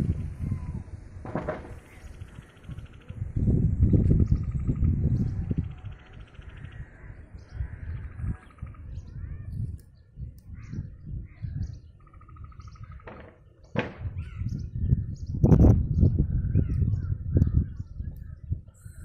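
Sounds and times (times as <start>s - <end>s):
low gusty rumble: 0.0s - 19.0s
small birds chirping: 0.0s - 19.0s.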